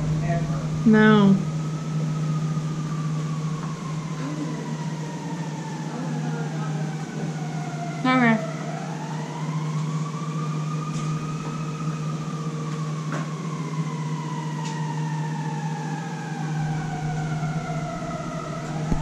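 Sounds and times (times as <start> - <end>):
siren wailing: 0.0 - 19.0
steady low hum: 0.0 - 19.0.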